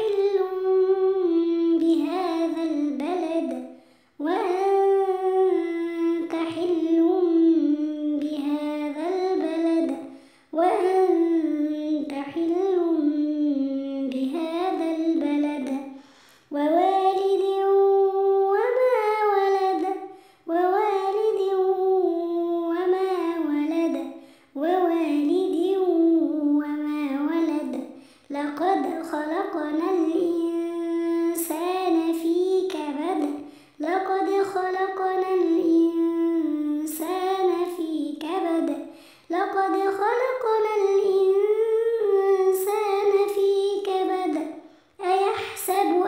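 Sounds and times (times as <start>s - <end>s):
child chanting melodically: 0.0s - 46.0s.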